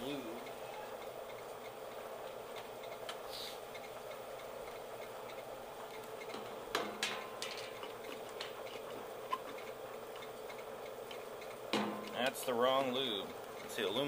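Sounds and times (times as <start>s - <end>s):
milling machine spindle humming: 0.0s - 14.0s.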